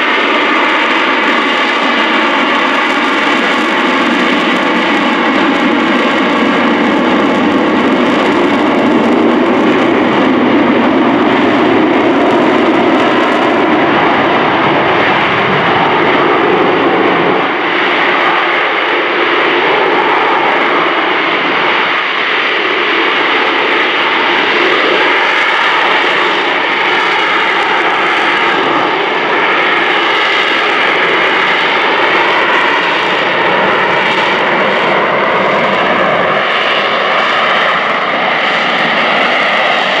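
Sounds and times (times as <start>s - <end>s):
jet engine roar with whine: 0.0s - 40.0s.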